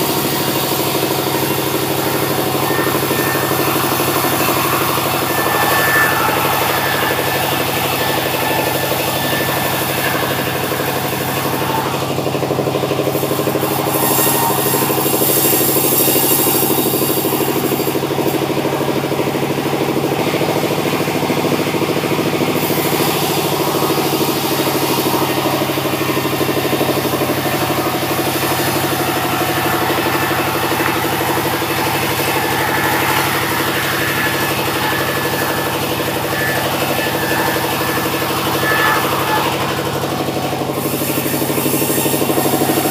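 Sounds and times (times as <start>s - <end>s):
sawmill machinery drone: 0.0s - 42.9s.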